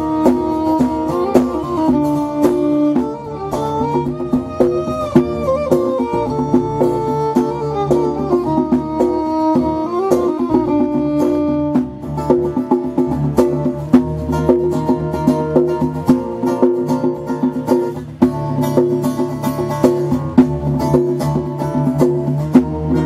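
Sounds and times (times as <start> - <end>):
acoustic guitar strumming: 0.0 - 23.0
bass guitar line: 0.0 - 23.0
hand drum beats: 0.0 - 23.0.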